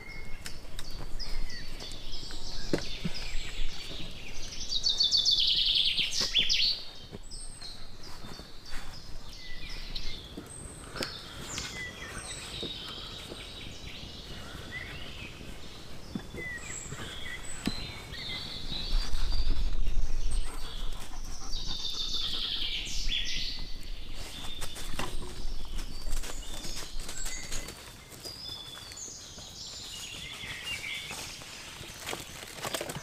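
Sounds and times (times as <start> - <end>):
birds chirping and singing: 0.0 - 33.0.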